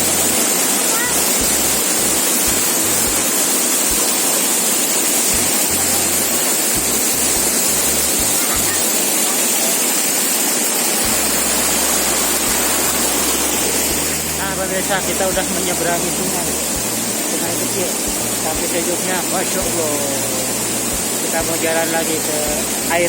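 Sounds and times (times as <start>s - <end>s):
stream rushing: 0.0s - 23.0s.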